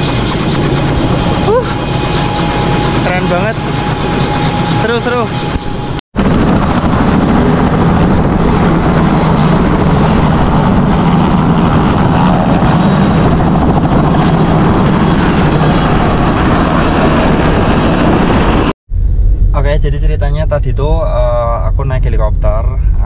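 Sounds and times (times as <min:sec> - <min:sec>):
helicopter rotor and engine: 0:00.0 - 0:18.7.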